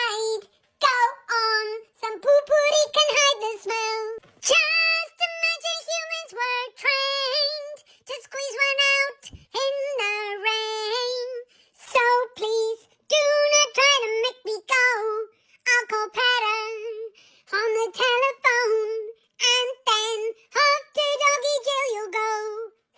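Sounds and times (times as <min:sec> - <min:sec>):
high-pitched wordless singing: 0:00.0 - 0:22.8.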